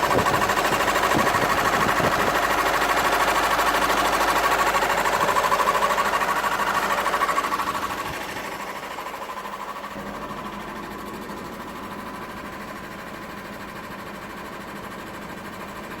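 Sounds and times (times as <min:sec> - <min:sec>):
diesel engine clattering: 0:00.0 - 0:16.0.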